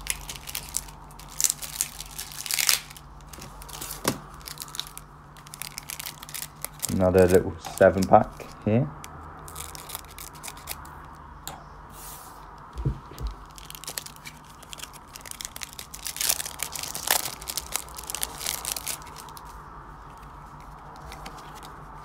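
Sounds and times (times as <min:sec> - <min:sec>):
plastic wrapper tearing and crinkling: 0:00.0 - 0:10.9, 0:13.3 - 0:22.0.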